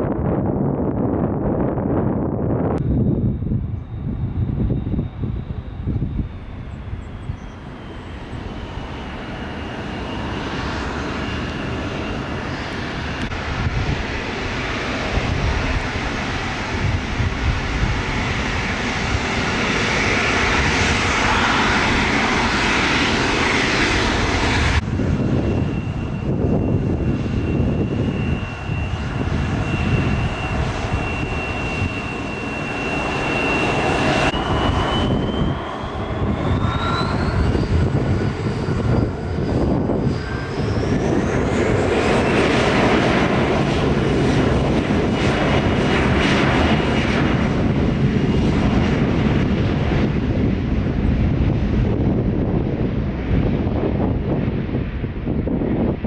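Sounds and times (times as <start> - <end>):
jet engines running with whine: 0.0 - 56.0.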